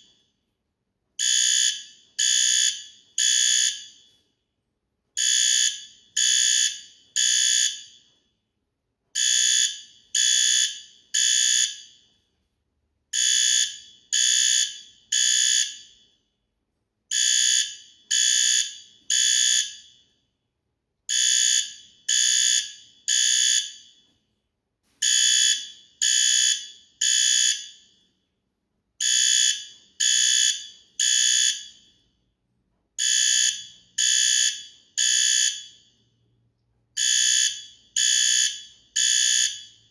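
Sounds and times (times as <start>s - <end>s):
fire alarm beeps: 1.2s - 4.4s, 5.2s - 8.5s, 9.1s - 12.5s, 13.1s - 16.5s, 17.1s - 20.4s, 21.1s - 24.4s, 25.0s - 28.3s, 29.0s - 32.4s, 33.0s - 36.3s, 37.0s - 39.9s.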